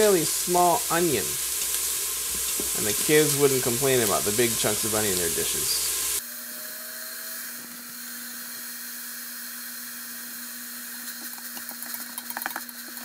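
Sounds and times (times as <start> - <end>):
onion sizzling in hot oil: 0.0 - 6.4, 7.3 - 13.0.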